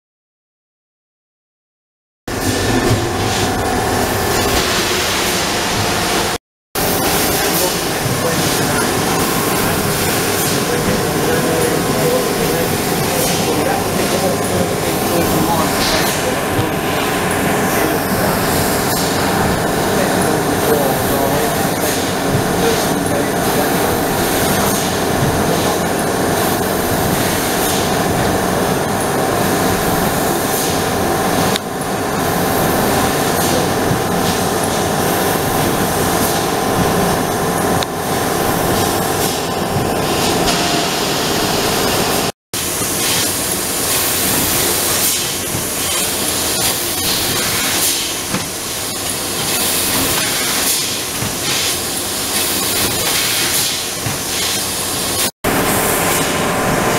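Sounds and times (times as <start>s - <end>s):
laser cutter mechanical hum: 2.3s - 56.9s.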